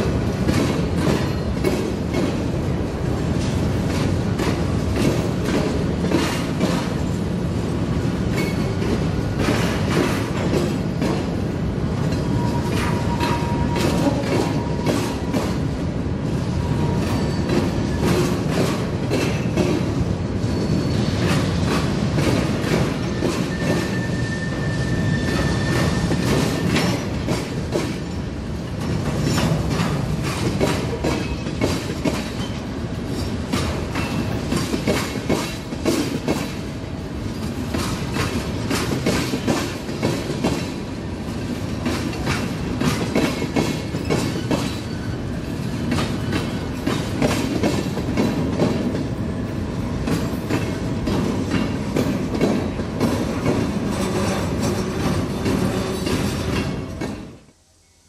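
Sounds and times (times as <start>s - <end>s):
freight cars rumbling on rails: 0.0s - 57.5s
clicks and clanks of cars: 0.3s - 2.6s, 3.3s - 7.2s, 8.2s - 11.4s, 12.0s - 15.7s, 16.9s - 20.1s, 21.2s - 23.9s, 25.8s - 36.7s, 37.4s - 40.8s, 41.6s - 44.9s, 45.6s - 49.1s, 50.0s - 57.4s.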